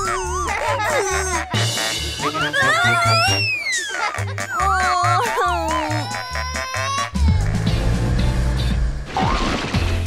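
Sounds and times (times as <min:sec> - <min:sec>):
upbeat children's music: 0:00.0 - 0:08.8.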